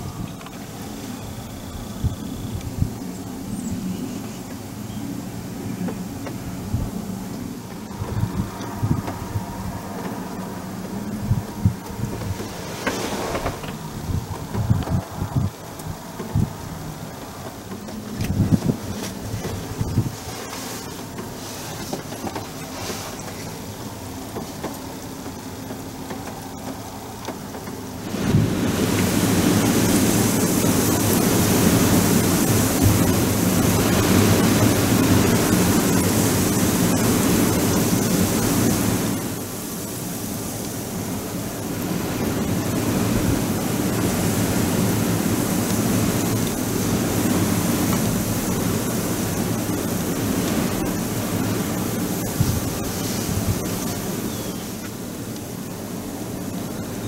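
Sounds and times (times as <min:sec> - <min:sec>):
wind noise on microphone: 0:00.0 - 0:25.7, 0:28.0 - 0:57.0.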